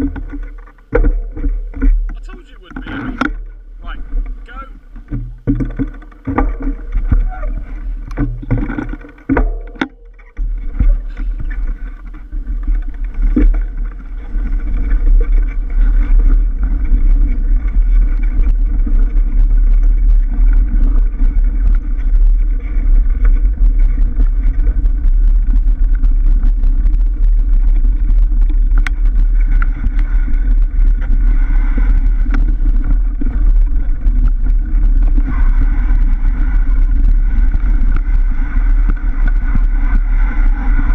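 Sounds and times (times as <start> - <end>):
bike rattling over bumpy ground: 0.0 - 40.9
bike tyre noise: 0.0 - 40.9
wind rumbling on microphone: 0.0 - 40.9.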